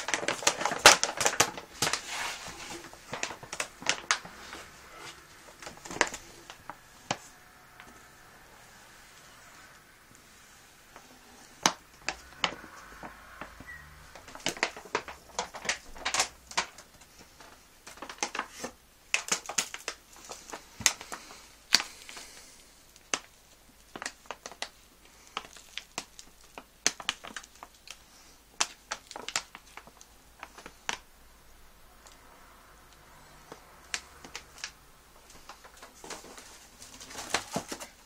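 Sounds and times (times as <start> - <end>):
plastic bags crinkling: 0.0 - 31.1, 33.0 - 38.0.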